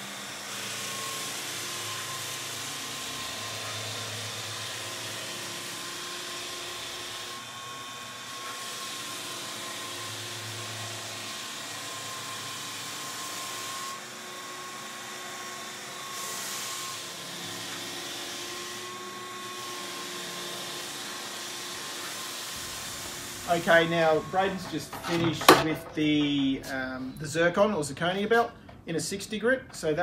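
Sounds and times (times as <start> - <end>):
floor sander whining: 0.0 - 27.1.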